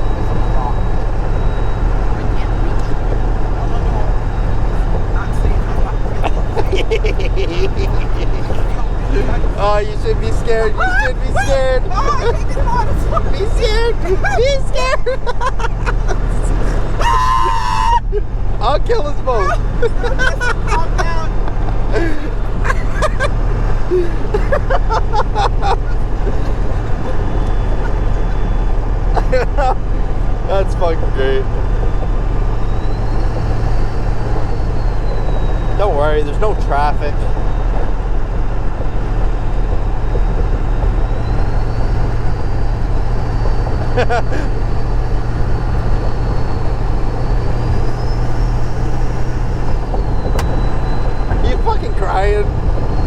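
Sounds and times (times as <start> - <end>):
diesel truck engine drone: 0.0 - 53.0
high turbo whistle: 0.0 - 53.0
road noise: 0.0 - 53.0.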